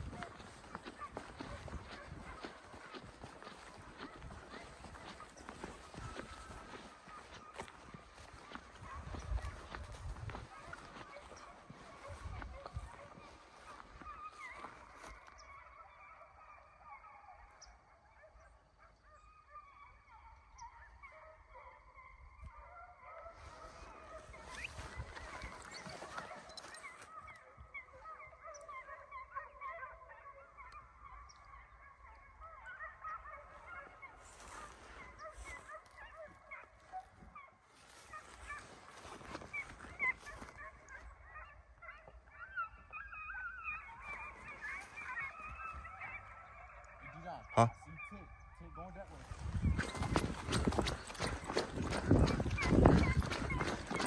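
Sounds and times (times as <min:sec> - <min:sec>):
distant hounds baying: 0:00.0 - 0:54.0.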